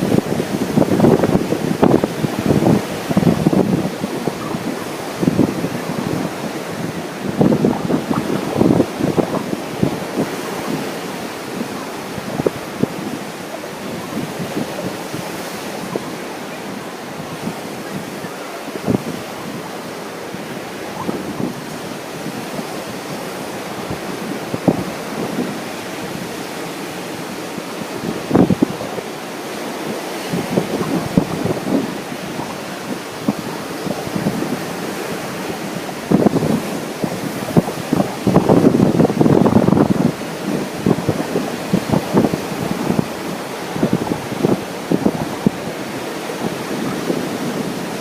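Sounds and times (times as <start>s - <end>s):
ocean surf rushing: 0.0s - 48.0s
wind buffeting microphone: 0.0s - 48.0s.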